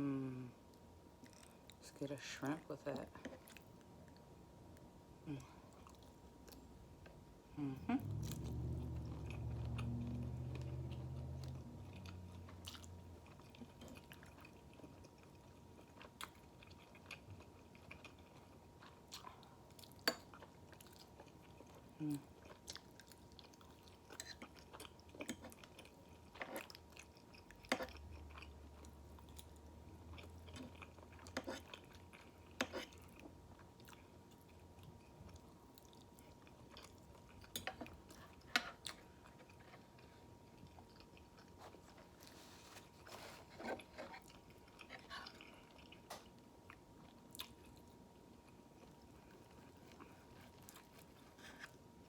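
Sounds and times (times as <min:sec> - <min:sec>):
person chewing food: 0:00.7 - 0:01.8, 0:03.2 - 0:52.0.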